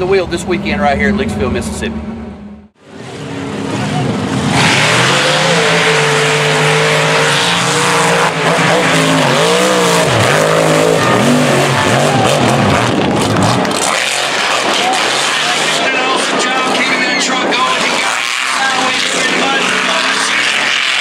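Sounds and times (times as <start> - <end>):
truck engines at full throttle: 0.0 - 21.0.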